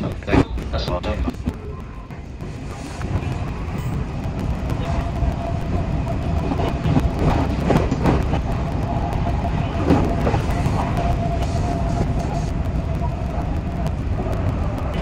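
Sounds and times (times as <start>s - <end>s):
electric train rumble and hum: 0.0s - 15.0s.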